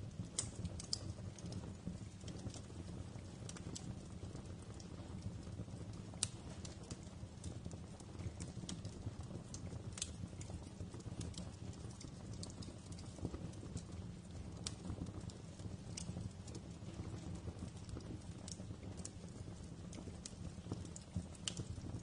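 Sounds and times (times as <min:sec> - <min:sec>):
fire crackling: 0:00.0 - 0:22.0
low rumble of flame: 0:00.0 - 0:22.0.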